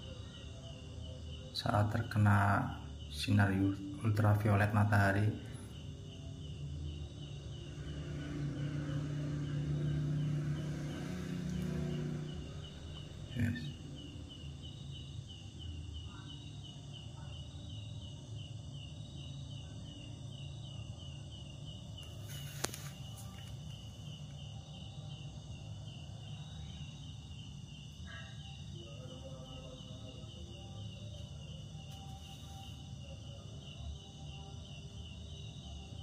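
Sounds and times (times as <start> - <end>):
insect chirping: 0.0 - 36.0.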